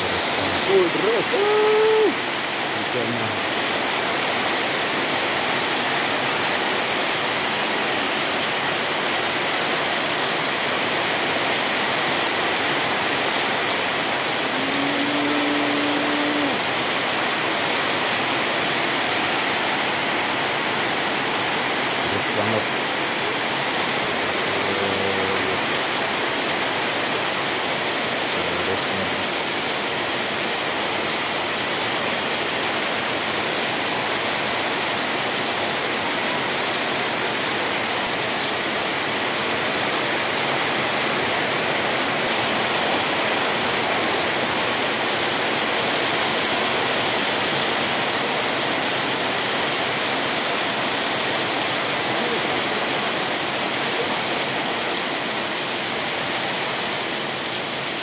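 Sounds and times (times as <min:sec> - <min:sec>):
water pouring off roof edges: 0:00.0 - 0:14.7, 0:15.4 - 0:58.0
heavy rain on pavement and roofs: 0:00.0 - 0:58.0.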